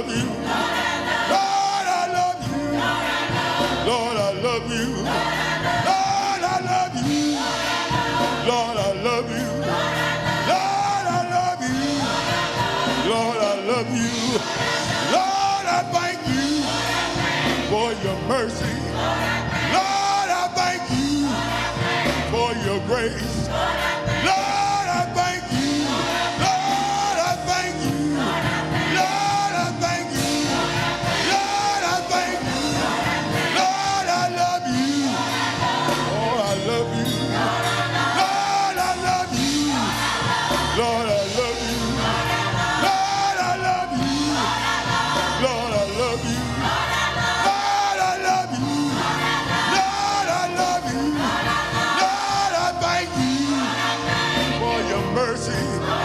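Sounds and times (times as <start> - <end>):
choir and congregation singing: 0.0 - 56.0
instrumental accompaniment: 0.0 - 56.0.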